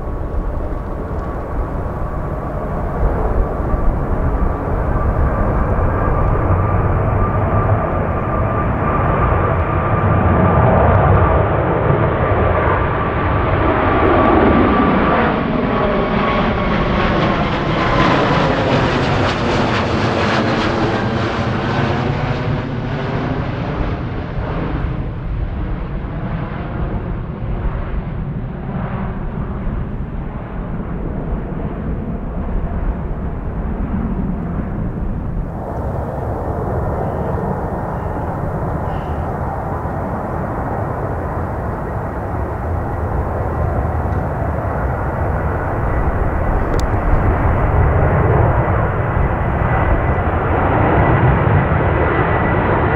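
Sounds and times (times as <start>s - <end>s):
jet airliner passing: 0.0s - 52.9s.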